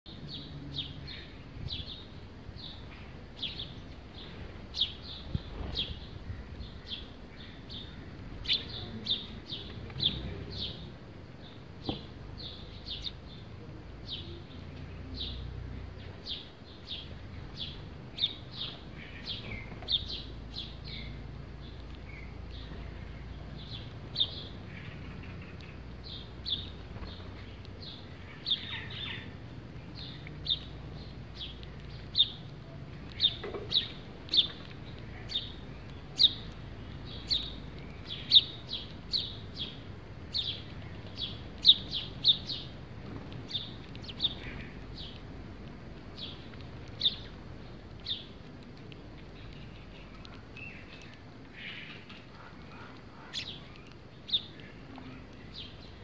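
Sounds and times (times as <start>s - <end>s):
sparrows chirping: 0.1s - 56.0s.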